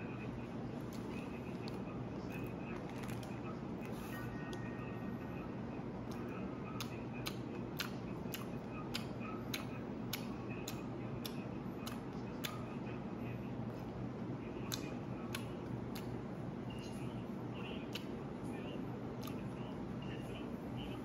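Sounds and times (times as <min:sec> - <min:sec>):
steady low hum: 0:00.0 - 0:21.0
mouth chewing food: 0:00.4 - 0:05.4, 0:06.0 - 0:13.9, 0:14.5 - 0:21.0.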